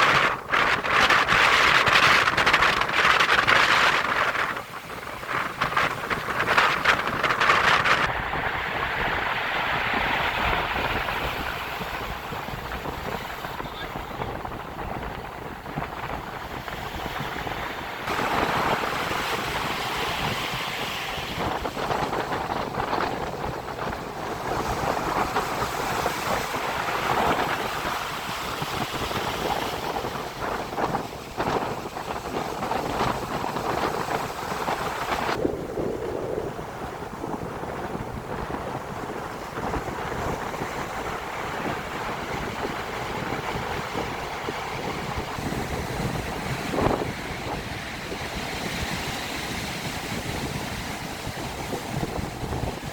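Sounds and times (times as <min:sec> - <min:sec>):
waves breaking on shore: 0:00.0 - 0:52.9
wind buffeting microphone: 0:00.0 - 0:52.9.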